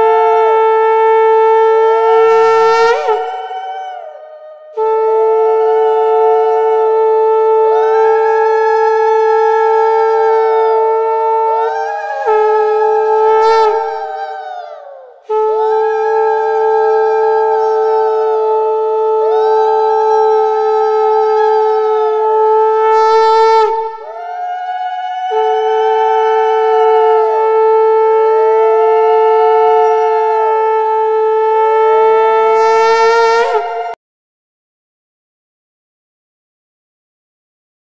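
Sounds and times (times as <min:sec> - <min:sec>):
conch shell blown: 0:00.0 - 0:34.0.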